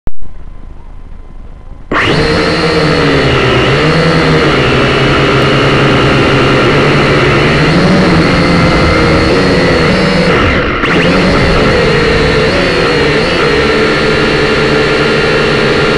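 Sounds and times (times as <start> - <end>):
drone motors whining: 0.3 - 15.9.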